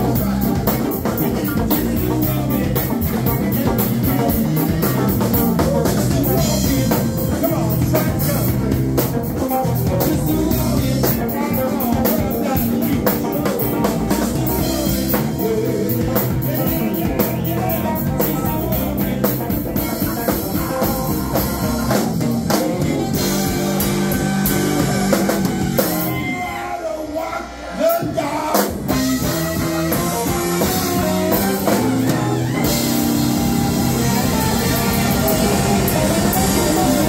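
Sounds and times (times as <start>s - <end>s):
saxophone: 0.0s - 26.8s, 28.5s - 37.0s
live rock band playing: 0.0s - 37.0s
person singing: 0.0s - 37.0s.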